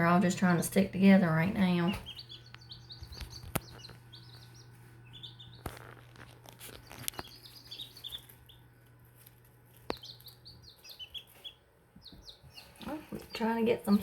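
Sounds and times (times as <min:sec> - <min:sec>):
baby chicks peeping: 0:00.0 - 0:14.0
steady low hum: 0:00.0 - 0:14.0.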